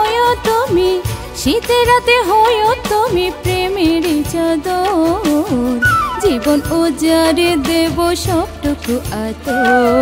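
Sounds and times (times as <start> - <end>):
drum beats: 0.2 - 10.0.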